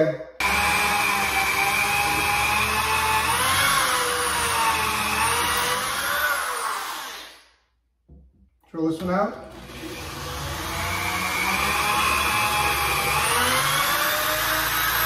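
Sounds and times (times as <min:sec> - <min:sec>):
electric drill whining: 0:00.4 - 0:07.6, 0:09.5 - 0:15.0.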